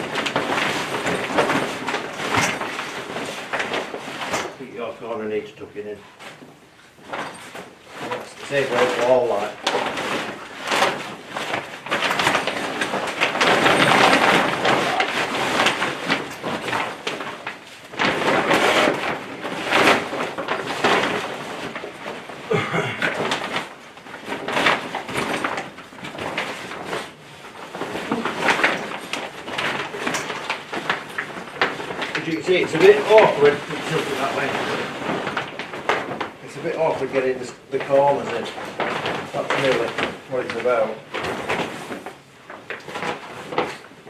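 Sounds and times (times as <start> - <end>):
tent fabric rustling and crinkling: 0.0 - 44.0.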